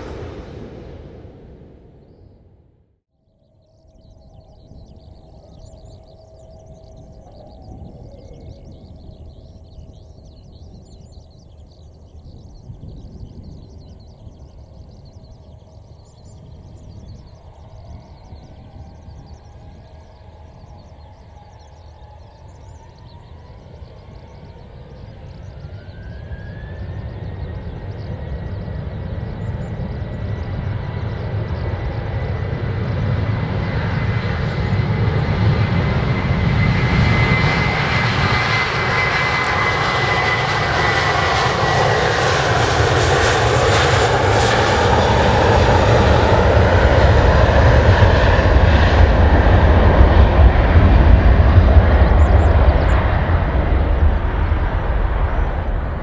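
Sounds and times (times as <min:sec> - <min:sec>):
jet engines whining on takeoff: 0:00.0 - 0:02.5, 0:03.3 - 0:56.0
deep rumble of jet exhaust: 0:00.0 - 0:02.8, 0:03.5 - 0:56.0.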